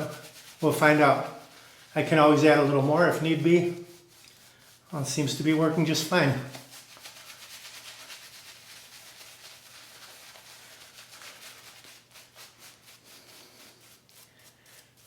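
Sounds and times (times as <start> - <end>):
shaving brush scrubbing: 0.0 - 15.0.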